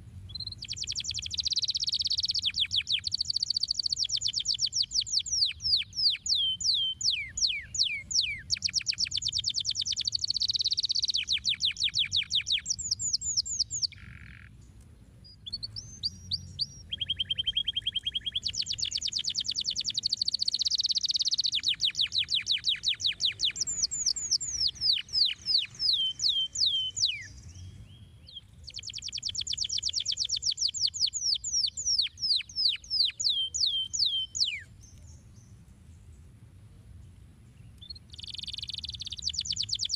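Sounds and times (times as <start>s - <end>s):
canary singing trills: 0.3s - 35.6s, 37.6s - 39.9s.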